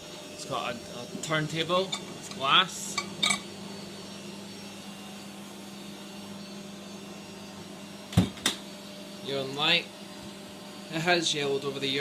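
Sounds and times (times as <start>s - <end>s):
microwave fan motor hum: 0.0s - 12.0s.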